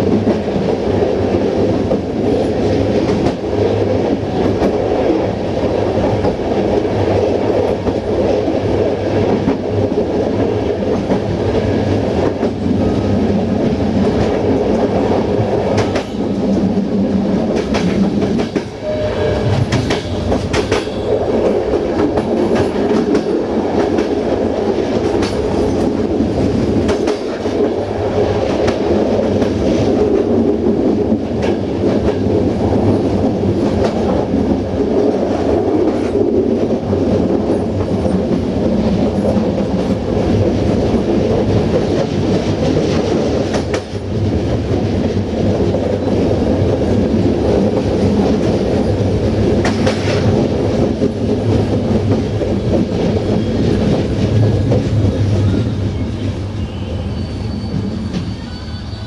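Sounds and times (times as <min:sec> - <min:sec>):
clickety-clack over rail joints: 0:00.0 - 0:56.4, 0:57.6 - 0:58.5
train wheels rumbling on track: 0:00.0 - 0:59.0.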